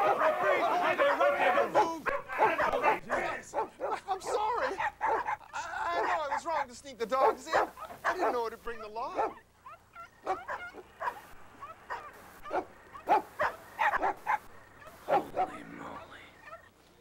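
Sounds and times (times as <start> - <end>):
dogs barking and yelping: 0.0 - 16.8.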